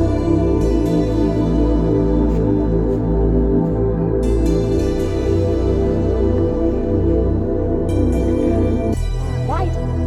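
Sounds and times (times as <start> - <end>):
calm ambient music: 0.0 - 10.0.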